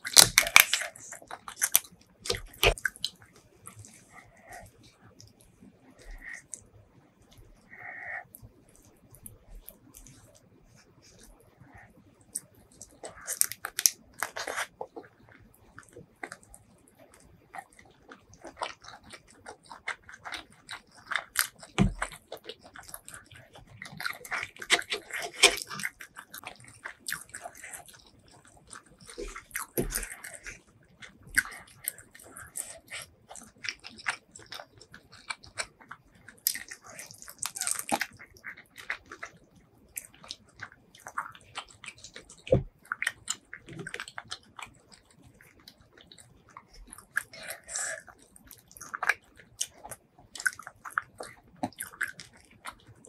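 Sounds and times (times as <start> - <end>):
wet chewing and mouth smacks: 0.0 - 6.7, 7.3 - 53.0.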